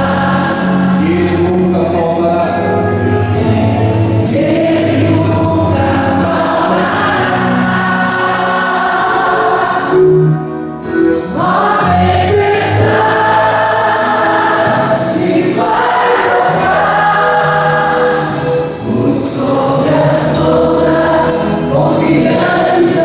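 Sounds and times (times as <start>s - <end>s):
choir singing worship song: 0.0s - 23.0s
instrumental accompaniment: 0.0s - 23.0s.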